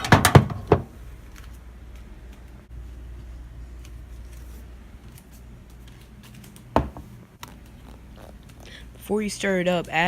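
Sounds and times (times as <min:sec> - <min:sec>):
steady low hum: 0:00.7 - 0:10.0.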